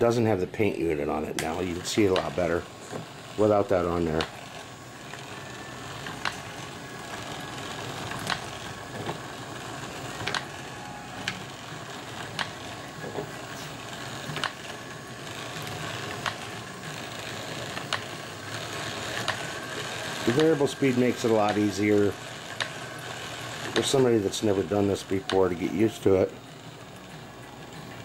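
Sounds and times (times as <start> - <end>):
machine steady mechanical whir: 0.0 - 28.0.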